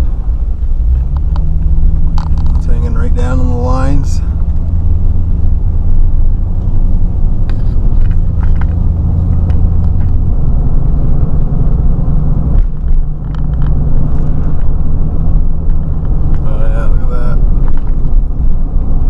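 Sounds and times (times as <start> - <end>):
engine and road noise drone: 0.0 - 19.0.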